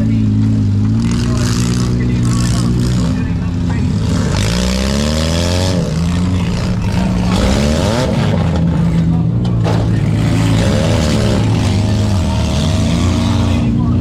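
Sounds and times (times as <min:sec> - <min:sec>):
car engines revving: 0:00.0 - 0:14.0
low engine drone: 0:00.0 - 0:14.0.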